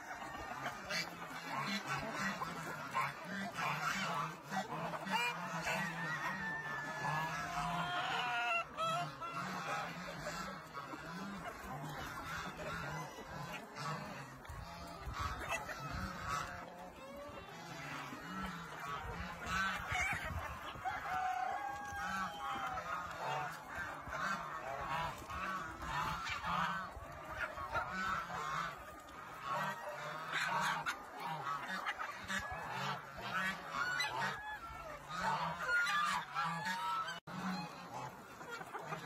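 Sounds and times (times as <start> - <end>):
low pulsing cluck: 0.0 - 39.0.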